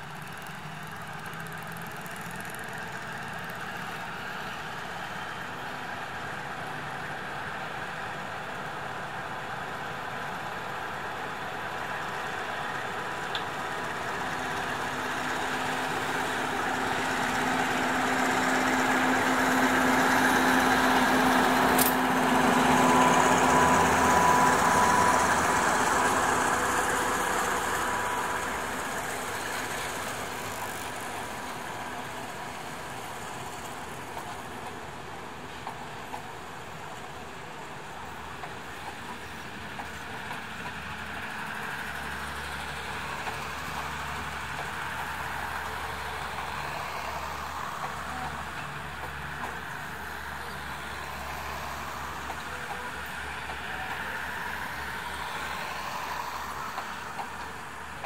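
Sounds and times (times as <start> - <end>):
diesel locomotive engine passing: 0.0 - 58.0.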